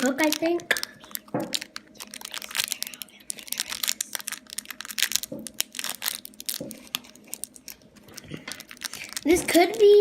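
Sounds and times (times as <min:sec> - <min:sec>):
plastic candy bags crinkling: 0:00.0 - 0:10.0.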